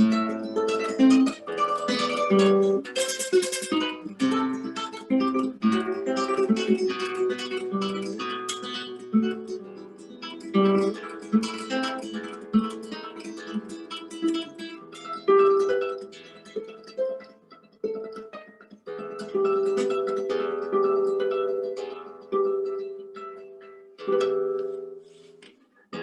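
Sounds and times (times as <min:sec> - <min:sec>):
plucked string instrument melody: 0:00.0 - 0:26.0.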